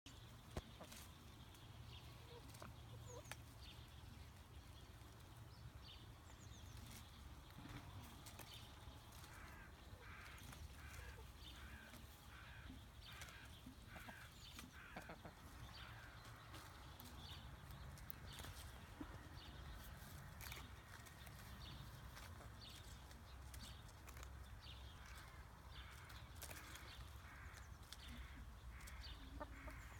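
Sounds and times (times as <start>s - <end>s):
hens pecking: 0.1s - 29.9s.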